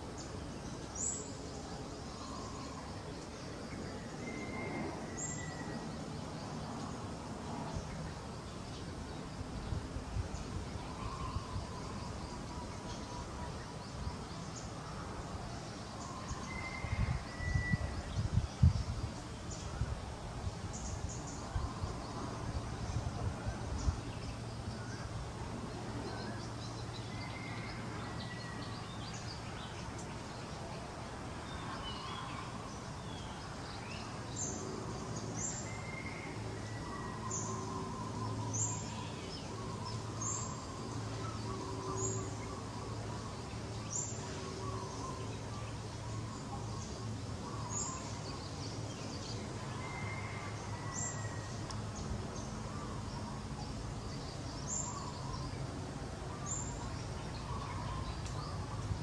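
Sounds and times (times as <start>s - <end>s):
birds calling and chirping: 0.0s - 59.0s.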